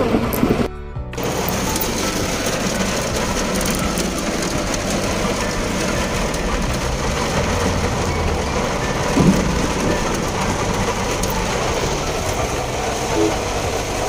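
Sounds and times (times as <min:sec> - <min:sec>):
heavy rain hissing on car: 0:00.0 - 0:14.0
low rumble of car: 0:00.0 - 0:14.0.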